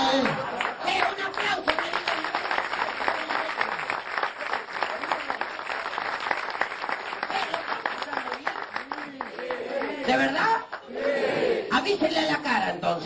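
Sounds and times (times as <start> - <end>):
audience applause: 0.1 - 10.8.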